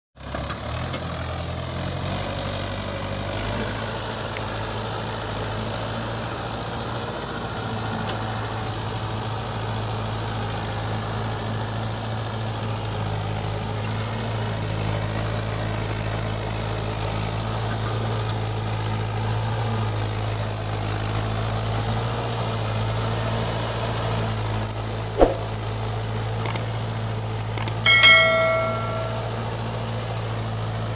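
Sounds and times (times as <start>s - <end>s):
tractor diesel engine running: 0.2s - 30.9s.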